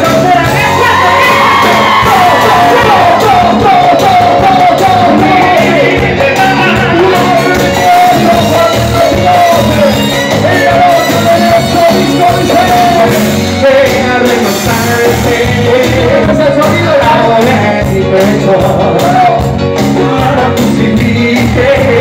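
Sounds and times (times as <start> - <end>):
congas: 0.0 - 22.0
drum kit: 0.0 - 22.0
keyboard: 0.0 - 22.0
man singing lead: 0.0 - 22.0.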